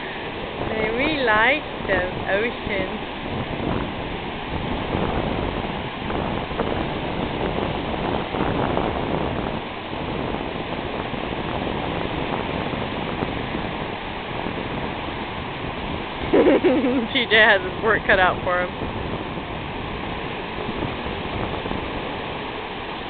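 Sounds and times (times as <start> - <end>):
ocean surf washing up: 0.0 - 23.0.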